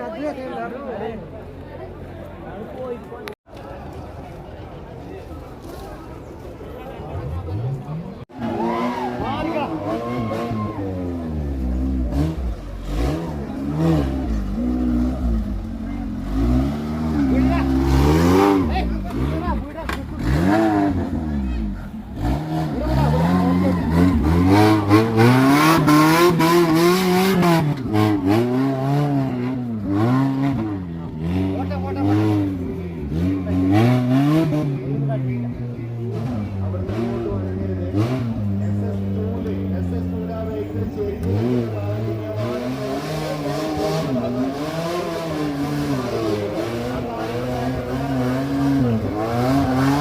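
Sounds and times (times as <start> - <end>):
off-road vehicle engine revving: 7.2 - 50.0.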